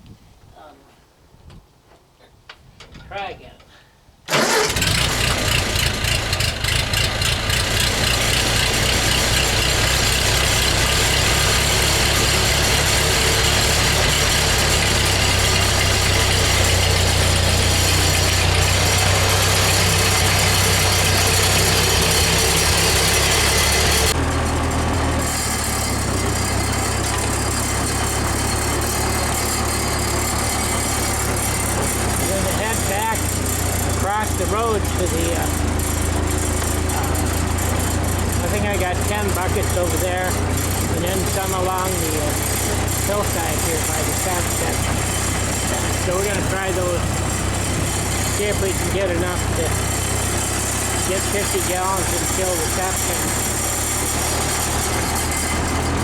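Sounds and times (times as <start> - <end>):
tractor engine idling: 4.3 - 56.0.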